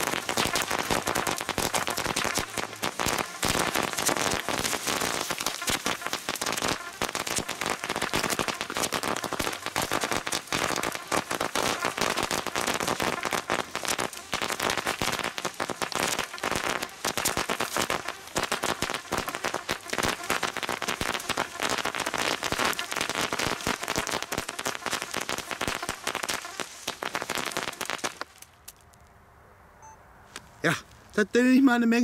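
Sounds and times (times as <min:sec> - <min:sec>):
firecrackers crackling: 0:00.0 - 0:29.1.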